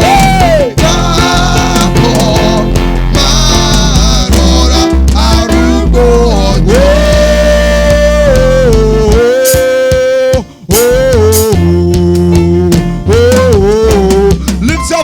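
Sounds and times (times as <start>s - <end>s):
band playing gospel music: 0.0s - 15.0s
person singing: 0.0s - 15.0s.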